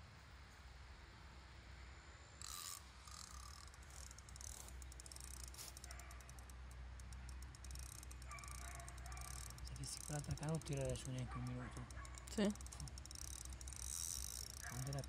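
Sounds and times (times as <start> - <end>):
fishing reel clicking: 2.4 - 15.0
fishing reel whirring: 2.4 - 15.0.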